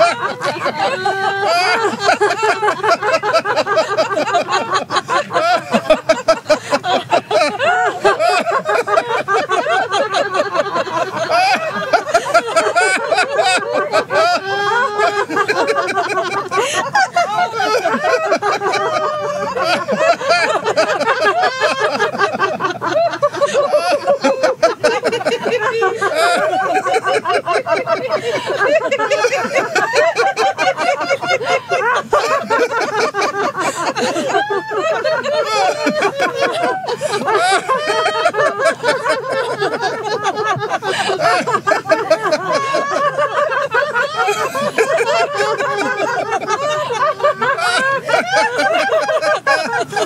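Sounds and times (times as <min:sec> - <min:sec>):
group of people laughing: 0:00.0 - 0:50.0.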